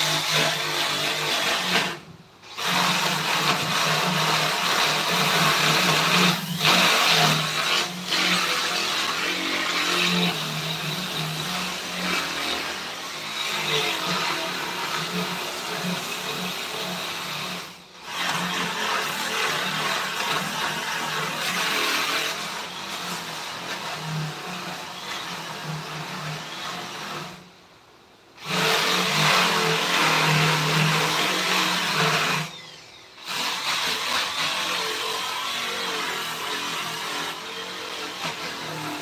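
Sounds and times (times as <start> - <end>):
power tool motor hum and hiss: 0.0 - 27.5, 28.4 - 39.0.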